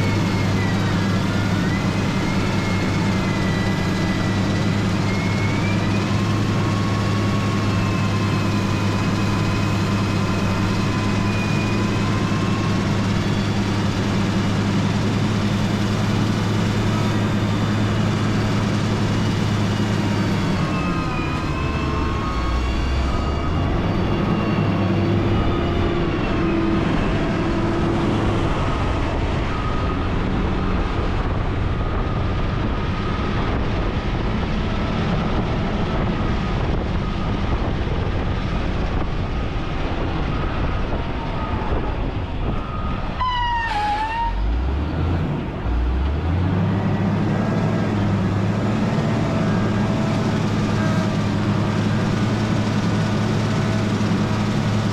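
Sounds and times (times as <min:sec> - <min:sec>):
motor grader diesel engine: 0:00.0 - 0:54.9.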